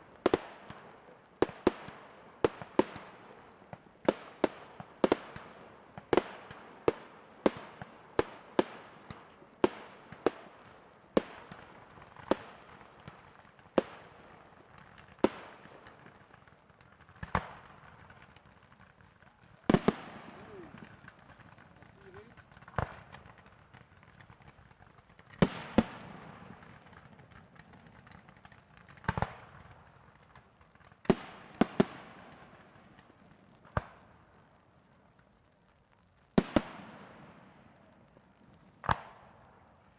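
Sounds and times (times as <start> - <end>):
fireworks bangs with echo: 0.0 - 39.9.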